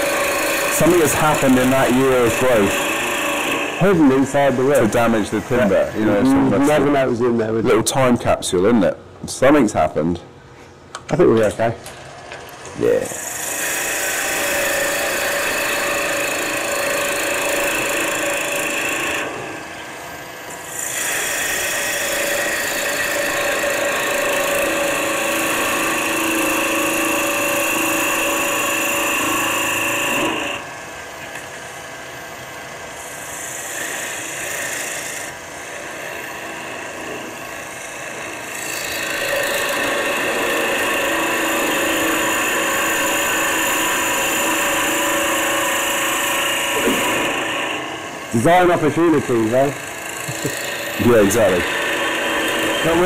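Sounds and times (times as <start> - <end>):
gouge cutting wood on a lathe: 0.0 - 7.0, 13.0 - 19.8, 20.5 - 30.8, 32.9 - 53.0.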